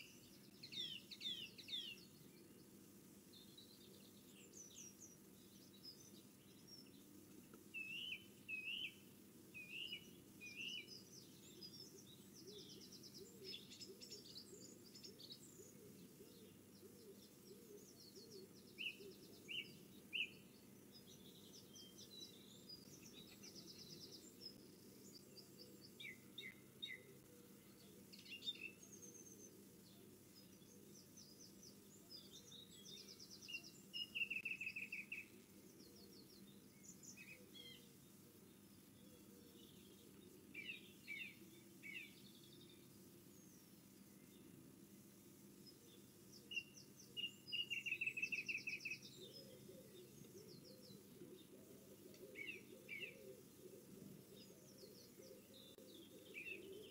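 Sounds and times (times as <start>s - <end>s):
faint low hum: 0.0s - 56.9s
songbirds chirping and trilling: 0.0s - 56.9s.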